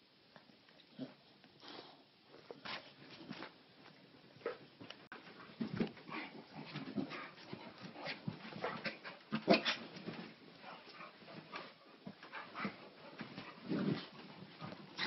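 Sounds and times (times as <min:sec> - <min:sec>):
dogs play-fighting noises: 0:02.4 - 0:15.0.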